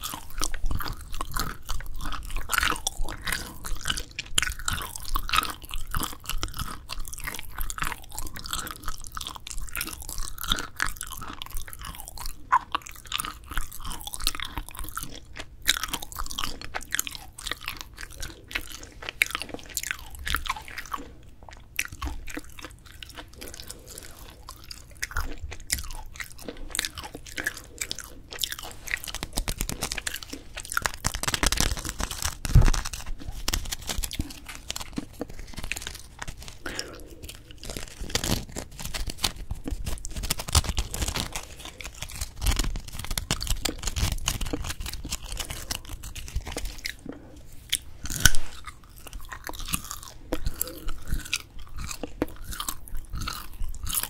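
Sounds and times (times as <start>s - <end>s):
chewing crunchy dried fish: 0.0s - 54.0s.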